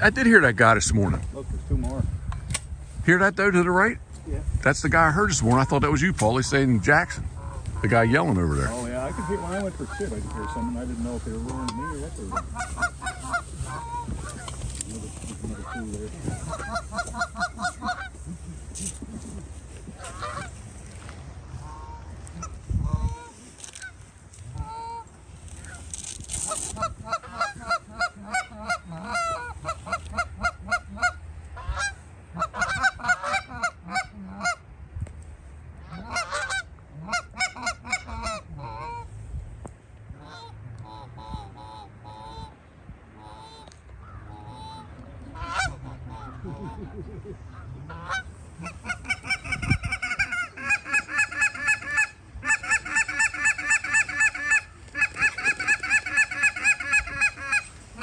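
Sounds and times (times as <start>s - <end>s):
geese honking: 5.1s - 34.6s, 35.8s - 39.1s, 40.1s - 42.6s, 43.2s - 58.0s.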